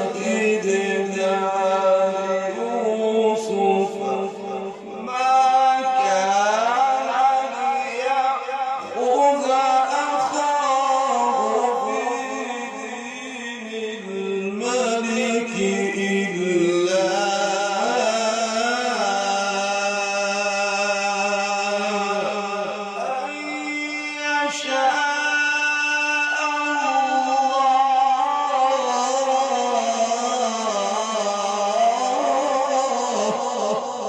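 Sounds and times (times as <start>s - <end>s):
man chanting recitation: 0.0s - 34.0s.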